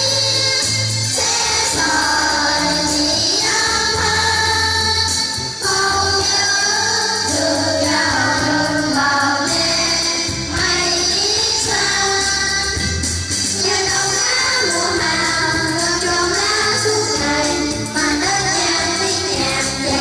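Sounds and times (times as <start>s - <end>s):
song with singing voices: 0.0s - 20.0s.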